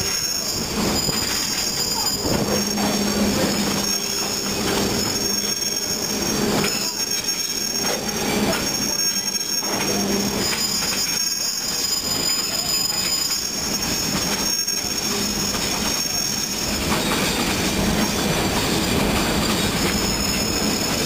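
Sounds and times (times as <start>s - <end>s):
train rolling rumble: 0.0s - 21.0s
train wheel flange squeal: 0.0s - 21.0s.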